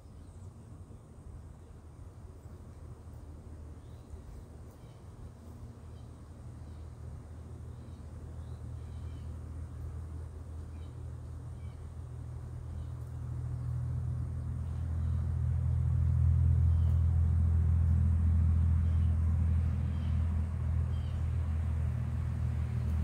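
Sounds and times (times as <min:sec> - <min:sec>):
low engine rumble: 0:00.0 - 0:23.0.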